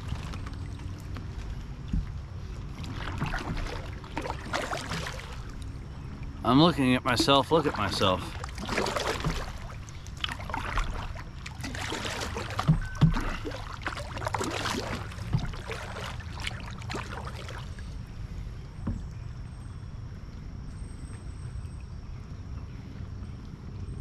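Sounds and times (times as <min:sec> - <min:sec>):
paddle splashes: 0:00.0 - 0:19.6
water noise: 0:00.0 - 0:24.0.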